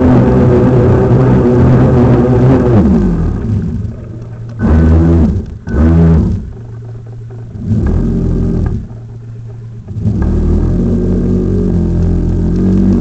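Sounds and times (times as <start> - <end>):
model boat motor: 0.0 - 13.0.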